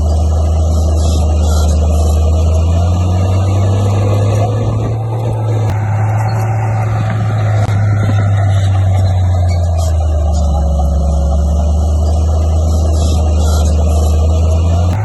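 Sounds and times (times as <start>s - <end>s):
bulldozer diesel engine under load: 0.0s - 15.0s.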